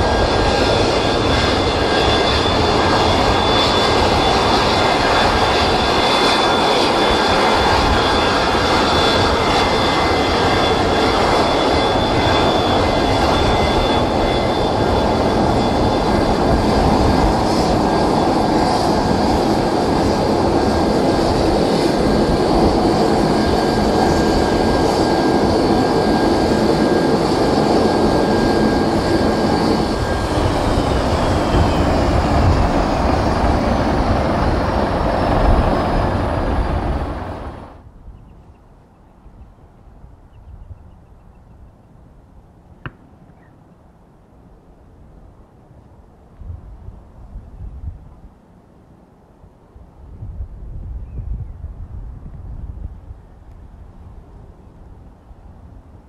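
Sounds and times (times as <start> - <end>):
jet engines idling with whine: 0.0 - 56.0.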